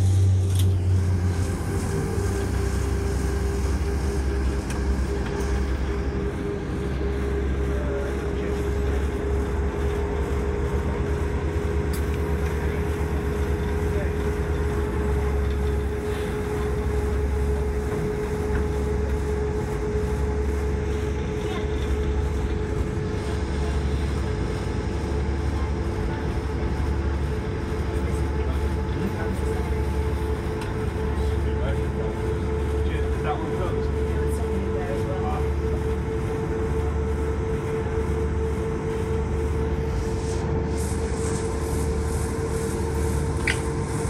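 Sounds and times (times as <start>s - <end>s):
constant hum: 0.0s - 44.0s
train rumble inside carriage: 0.0s - 44.0s.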